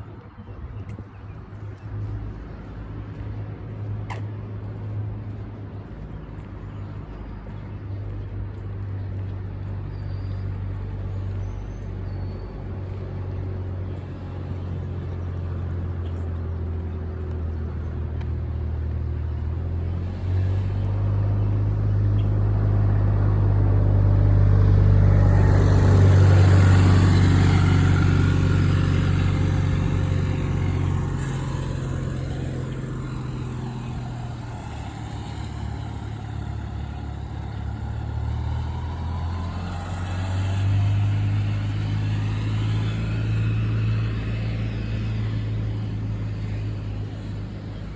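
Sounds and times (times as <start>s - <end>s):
road noise of passing vehicle: 0.0s - 47.9s
vehicle engine humming: 0.0s - 47.9s.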